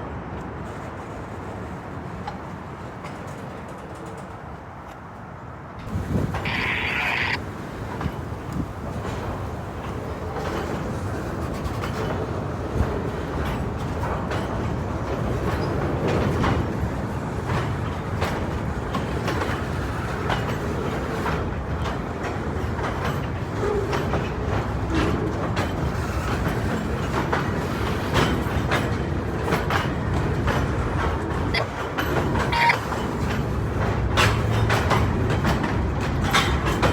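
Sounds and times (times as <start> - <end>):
freight train rumbling: 0.0 - 36.9
wheels clicking over rail joints: 5.8 - 36.9.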